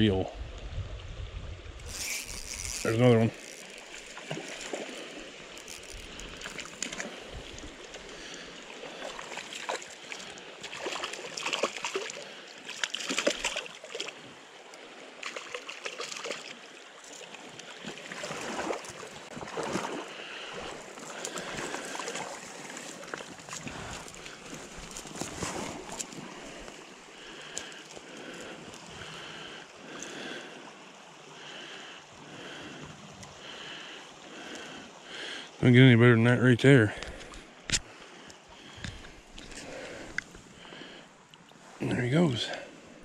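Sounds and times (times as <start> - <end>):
stream gurgling over rocks: 1.8 - 43.0.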